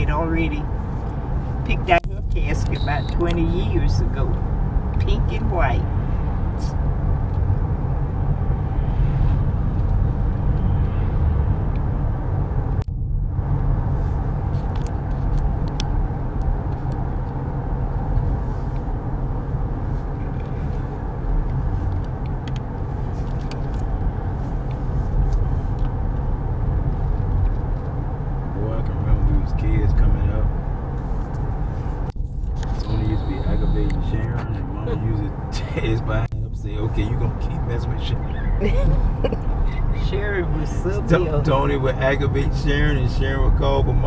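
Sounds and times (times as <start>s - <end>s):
truck engine and tyre rumble: 0.0s - 44.0s.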